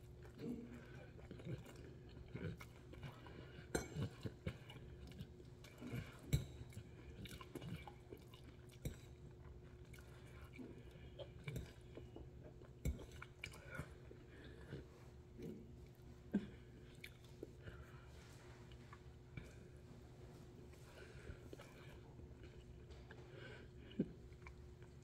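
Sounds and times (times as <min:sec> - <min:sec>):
chewing and slurping noodles: 0:00.0 - 0:25.0.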